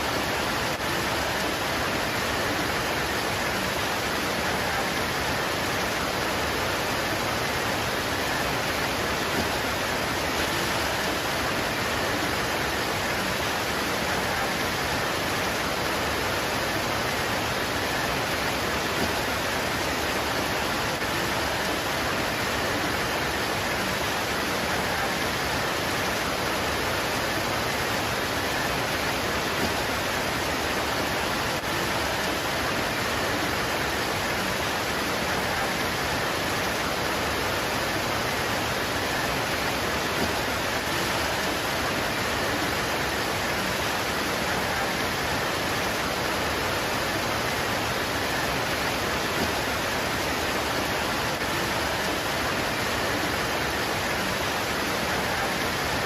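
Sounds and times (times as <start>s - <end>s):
rain pouring on leaves: 0.0s - 56.0s.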